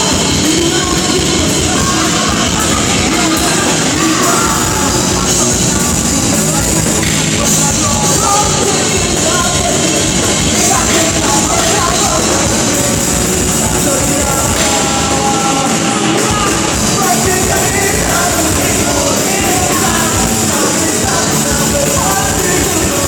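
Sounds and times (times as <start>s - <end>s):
loud rock band playing: 0.0s - 23.0s.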